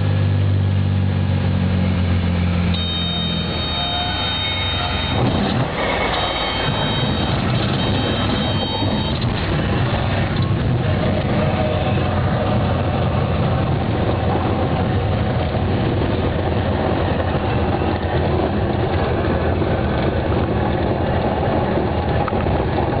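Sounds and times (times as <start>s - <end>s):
light aircraft engine droning: 0.0s - 23.0s.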